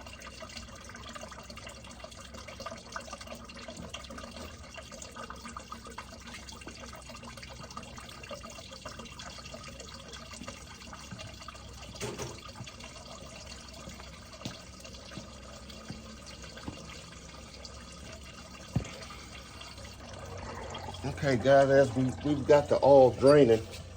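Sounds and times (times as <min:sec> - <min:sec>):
oil trickling into a pan: 0:00.0 - 0:23.9.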